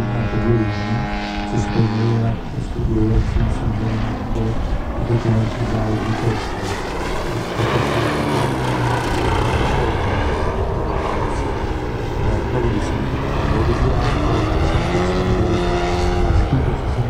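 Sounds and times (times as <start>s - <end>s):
model plane engine running: 0.0s - 17.0s.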